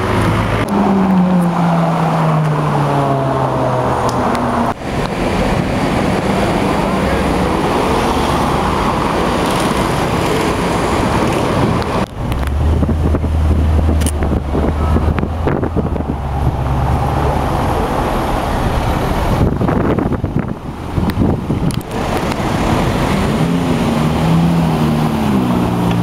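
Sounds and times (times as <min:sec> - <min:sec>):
deep steady engine drone: 0:00.0 - 0:26.0
supercar engines and exhausts: 0:00.0 - 0:26.0.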